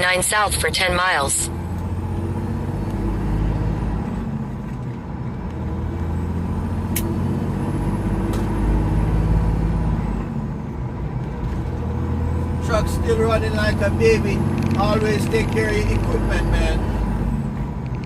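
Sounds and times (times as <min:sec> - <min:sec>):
diesel truck engine drone: 0:00.0 - 0:18.0
road noise: 0:00.0 - 0:18.0.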